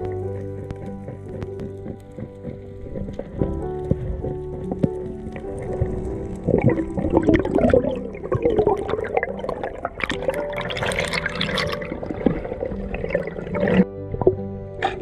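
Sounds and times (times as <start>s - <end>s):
water bubbling underwater: 0.0s - 15.0s.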